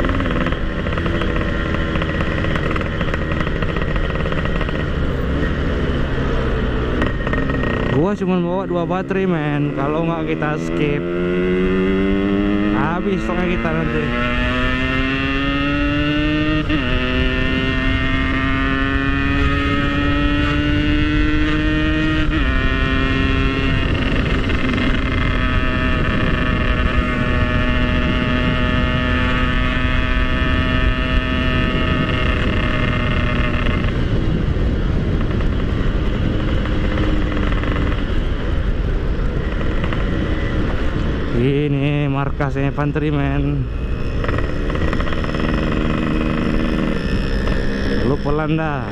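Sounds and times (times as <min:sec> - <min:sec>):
motorcycle engine revving: 0:00.0 - 0:48.9
rush of noise: 0:00.0 - 0:48.9.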